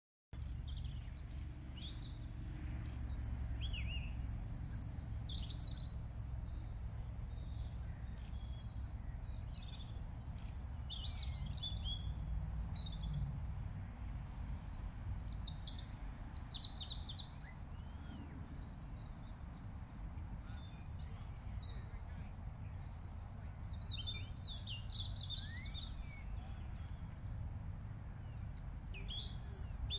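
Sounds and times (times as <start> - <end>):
small birds chirping: 0.4 - 27.3, 28.1 - 29.9.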